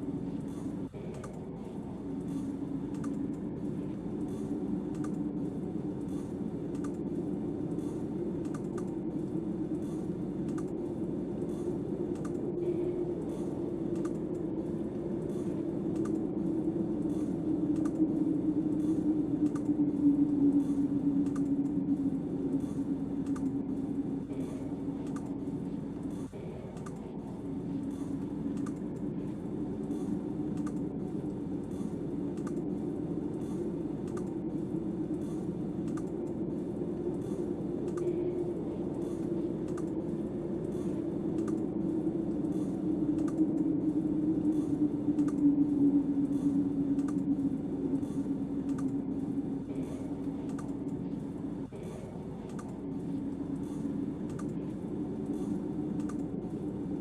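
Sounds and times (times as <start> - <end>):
wind moaning: 0.0 - 57.0
light regular ticking: 0.2 - 57.0.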